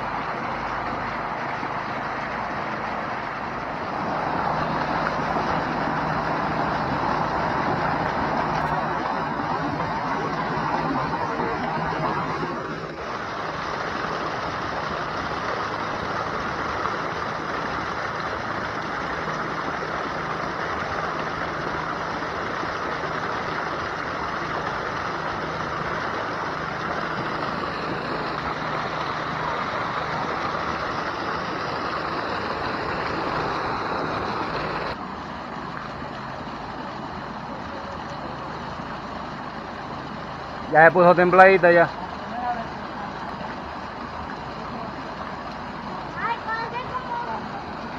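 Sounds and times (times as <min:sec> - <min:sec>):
truck engine running: 0:00.0 - 0:47.9
water splashing into pool: 0:00.0 - 0:47.9.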